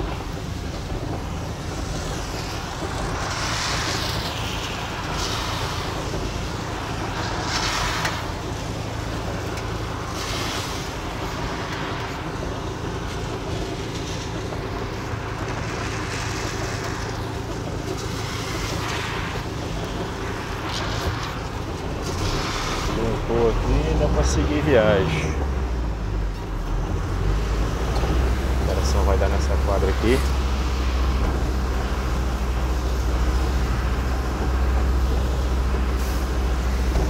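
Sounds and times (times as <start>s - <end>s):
vehicle engine humming: 0.0s - 37.0s
vehicles hissing past on wet road: 0.0s - 37.0s.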